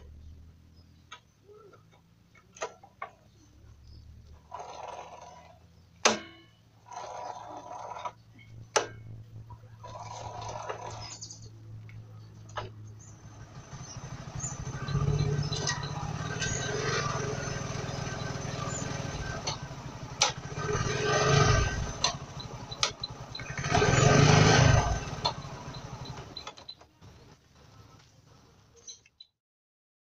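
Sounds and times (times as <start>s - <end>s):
motorcycle engine revving: 3.8s - 6.1s, 6.8s - 28.7s.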